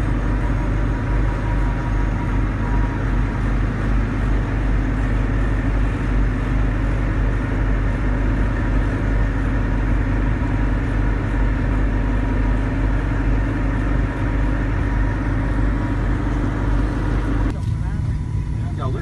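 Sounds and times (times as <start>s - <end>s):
boat engine droning: 0.0s - 19.0s
wind: 0.0s - 19.0s.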